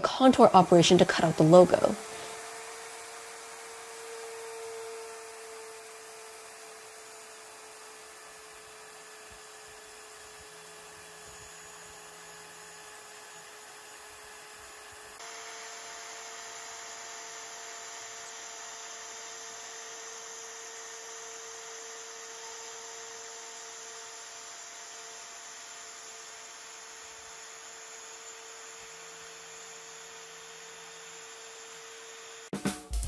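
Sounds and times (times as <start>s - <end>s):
router spindle whining: 0.0s - 32.5s
end mill cutting wood: 0.0s - 32.6s.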